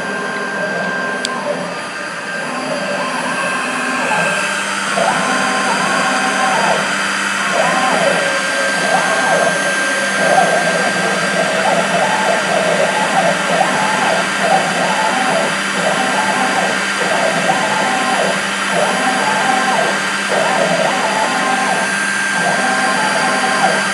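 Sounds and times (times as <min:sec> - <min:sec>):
axis motors whining: 0:00.0 - 0:23.9
spindle high whine: 0:00.0 - 0:23.9.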